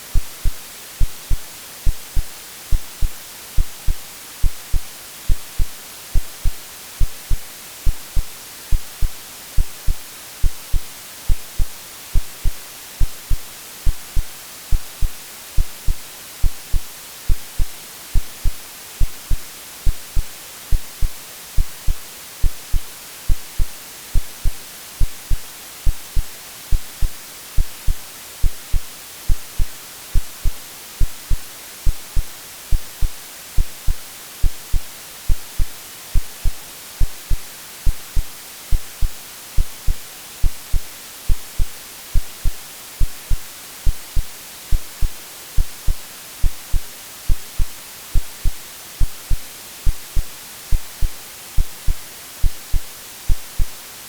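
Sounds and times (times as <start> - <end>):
white noise hiss: 0.0 - 54.0
synthetic heartbeat thumps: 0.2 - 53.7.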